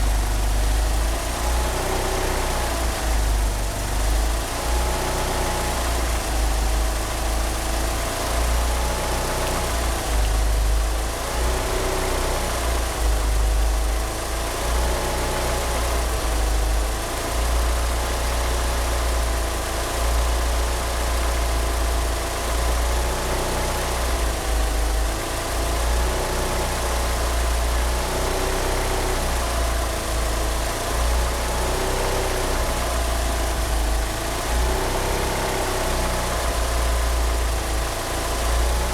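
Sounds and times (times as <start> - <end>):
car engine idling roughly: 0.0 - 38.9.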